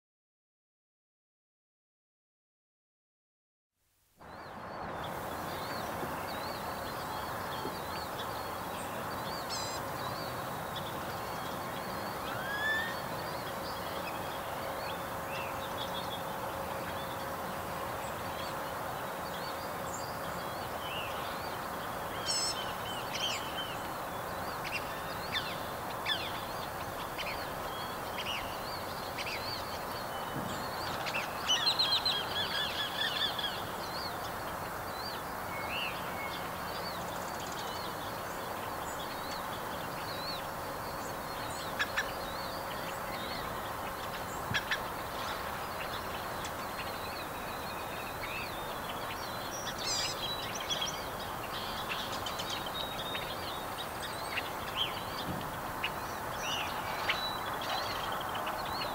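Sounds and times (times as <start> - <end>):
birds calling and chirping: 4.3 - 58.9.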